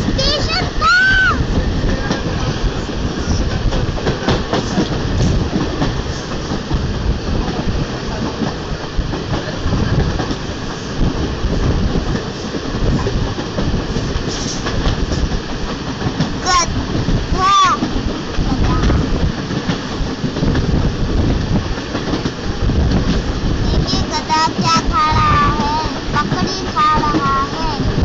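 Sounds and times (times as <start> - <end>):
train wheels rumbling on rails: 0.0 - 28.0
wheels clacking on rails: 0.0 - 28.0.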